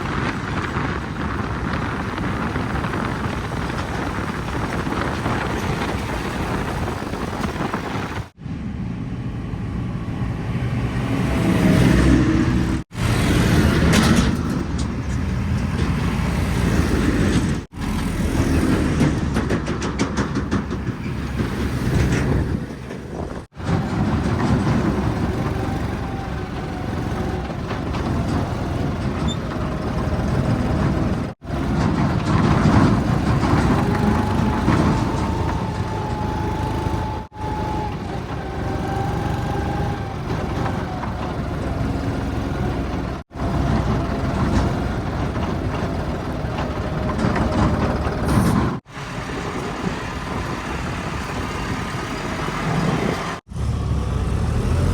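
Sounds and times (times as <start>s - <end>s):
heavy diesel engines running: 0.0s - 54.9s.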